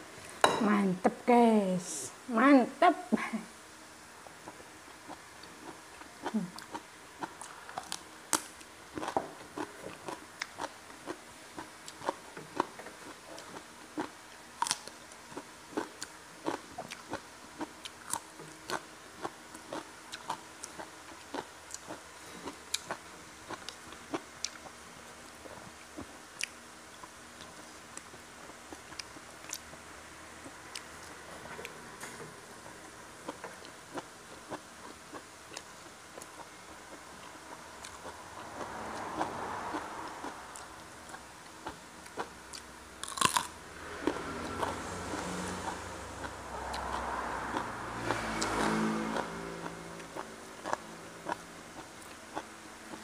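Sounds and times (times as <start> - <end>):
person chewing crunchy food: 4.3 - 29.6, 33.2 - 53.0.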